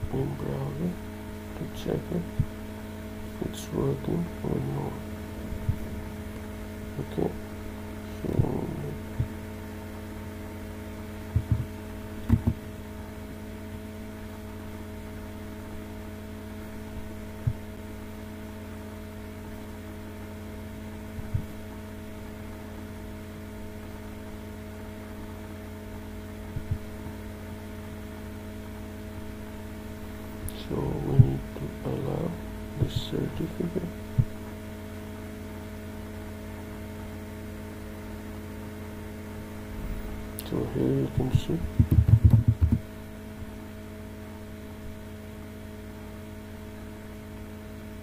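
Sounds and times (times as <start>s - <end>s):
electrical mains hum: 0.0s - 48.0s.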